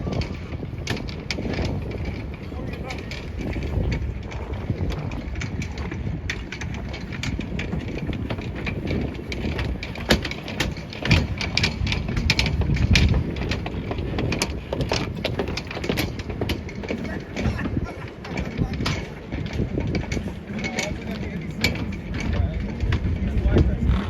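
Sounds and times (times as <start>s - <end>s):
low city rumble: 0.0s - 24.0s.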